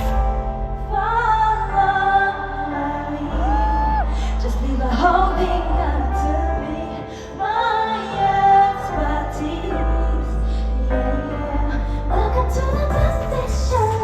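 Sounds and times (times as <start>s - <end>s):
woman singing pop song: 0.0s - 14.0s.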